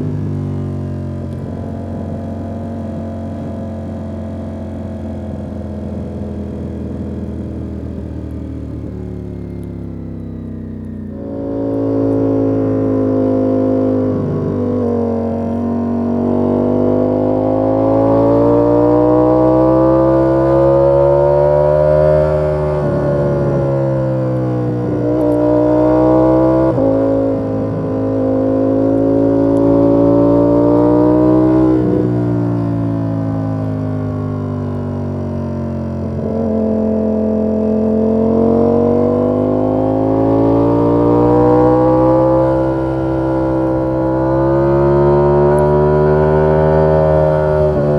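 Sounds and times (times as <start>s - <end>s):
motorcycle engine revving under load: 0.0s - 47.9s.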